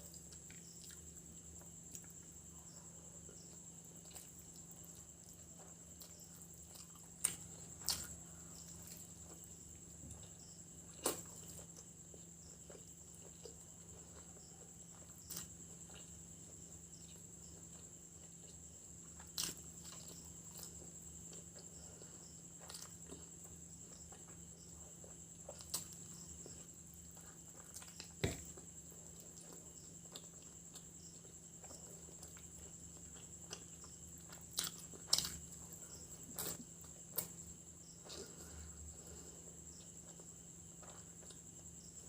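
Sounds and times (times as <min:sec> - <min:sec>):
person eating and chewing: 0:00.0 - 0:02.2, 0:03.4 - 0:41.6
faint steady hum: 0:00.0 - 0:42.0.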